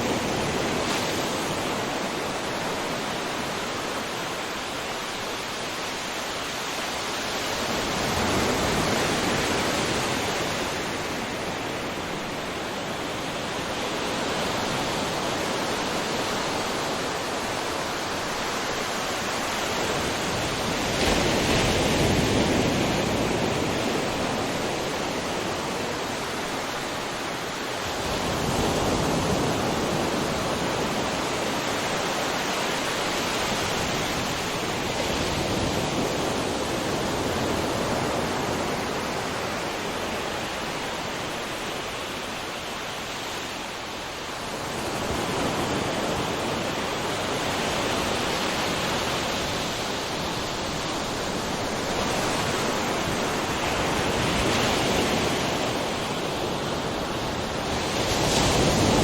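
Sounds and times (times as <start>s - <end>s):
ocean waves crashing on shore: 0.0s - 59.0s.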